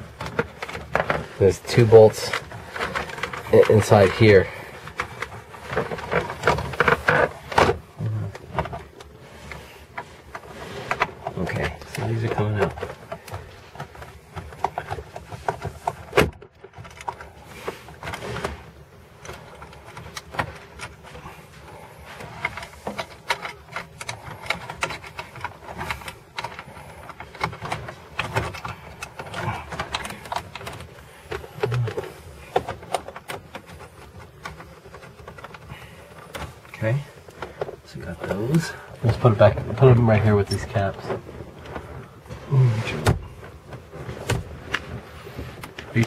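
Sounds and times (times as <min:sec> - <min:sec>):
hand tools clicking and rattling: 0:00.0 - 0:42.6.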